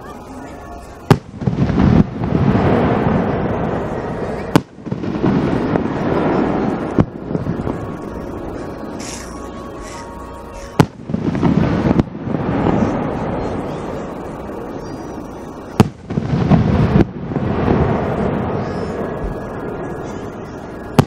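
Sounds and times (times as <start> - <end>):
long rolling rumble: 0.0 - 21.0.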